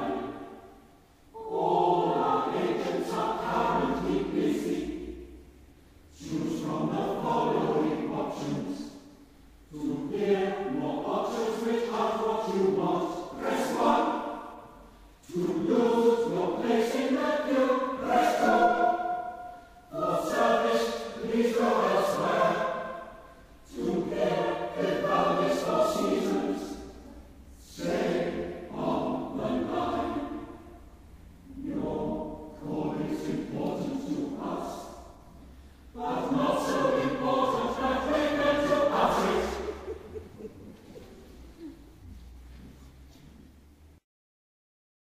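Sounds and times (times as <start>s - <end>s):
choir singing in several parts: 0.0s - 44.0s.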